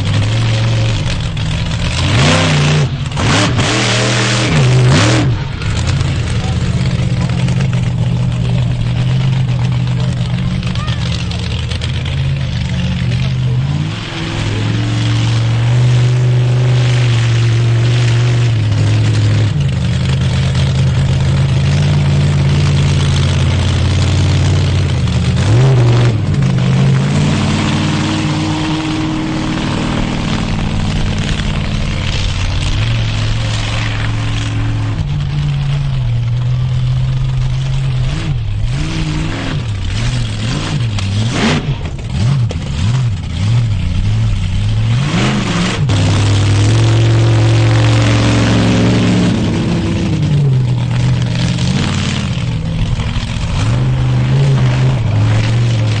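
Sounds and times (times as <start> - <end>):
monster truck engine running: 0.0 - 56.0.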